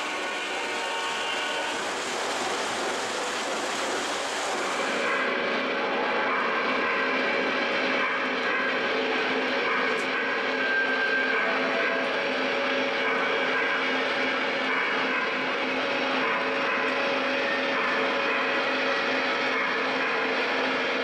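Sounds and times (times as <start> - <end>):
model train motor and wheels: 0.0 - 21.0.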